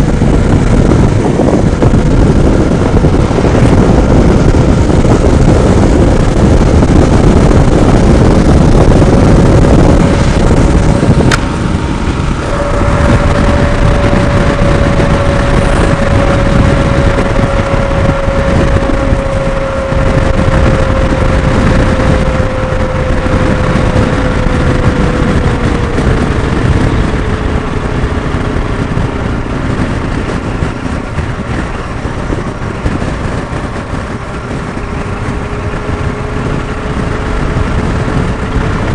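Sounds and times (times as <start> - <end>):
motorcycle engine: 0.0 - 38.9
wind rushing: 0.0 - 38.9.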